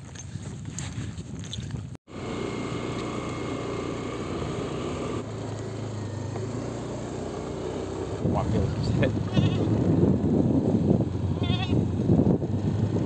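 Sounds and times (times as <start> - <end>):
motorcycle engine running: 2.1 - 13.0.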